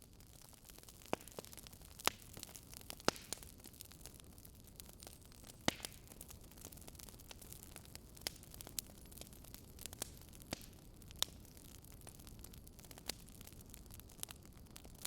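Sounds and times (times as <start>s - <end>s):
burning wood crackling and popping: 0.0s - 15.0s.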